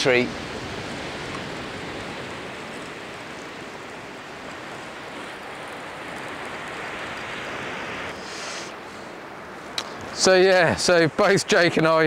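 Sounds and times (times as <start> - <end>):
sea surf washing ashore: 0.0 - 12.0.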